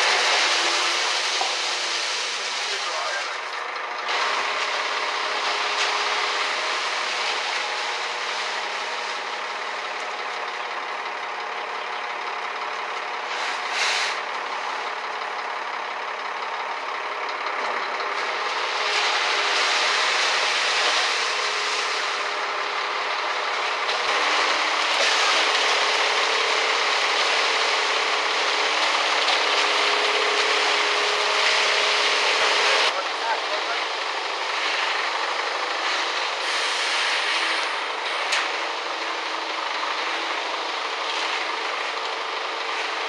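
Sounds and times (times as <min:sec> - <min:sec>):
engine running: 0:00.0 - 0:43.0.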